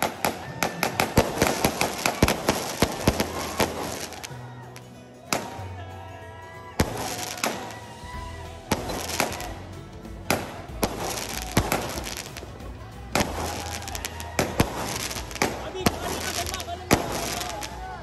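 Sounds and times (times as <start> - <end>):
fireworks bangs: 0.0 - 4.4, 6.8 - 18.0
background music: 0.0 - 18.0.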